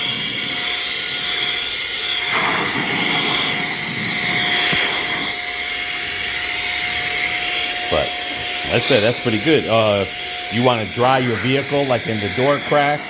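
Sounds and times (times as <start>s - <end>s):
electric air duster motor whining: 0.0s - 13.0s.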